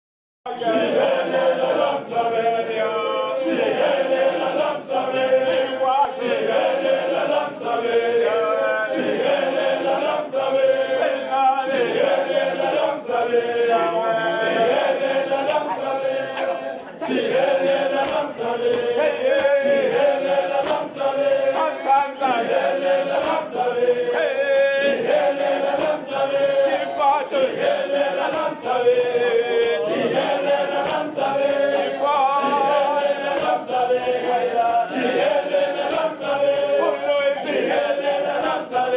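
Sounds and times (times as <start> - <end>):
men's choir singing in harmony: 0.5 - 38.9.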